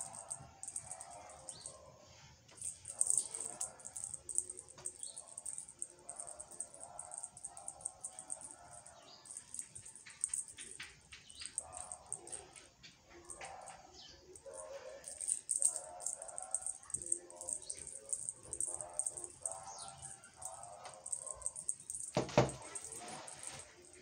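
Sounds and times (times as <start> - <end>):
cat toy rattling: 0.0 - 1.8, 2.5 - 24.0.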